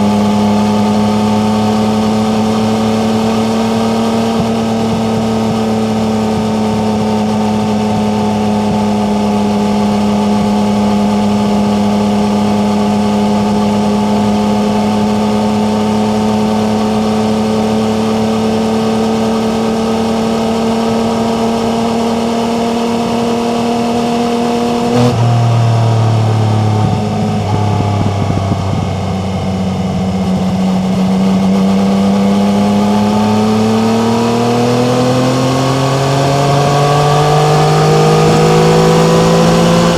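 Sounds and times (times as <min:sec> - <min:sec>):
gear change: 0:00.0 - 0:39.9
motorcycle engine revving under load: 0:00.0 - 0:39.9.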